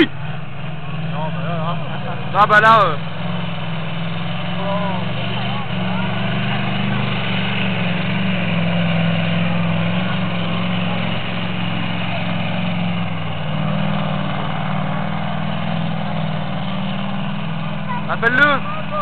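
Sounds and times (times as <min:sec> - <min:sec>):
tractor engine running hard: 0:00.0 - 0:19.0.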